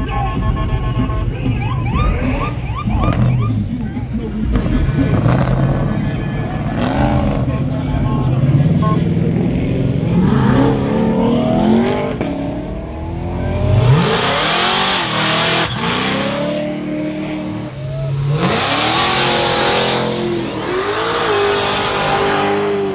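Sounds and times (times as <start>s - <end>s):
car engines revving and accelerating: 0.0s - 22.9s.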